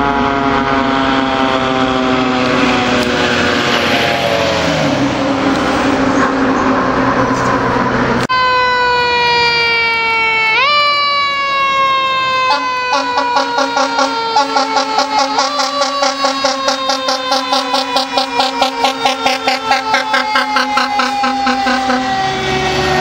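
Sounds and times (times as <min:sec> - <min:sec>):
fire engine and road noise: 0:00.0 - 0:23.0.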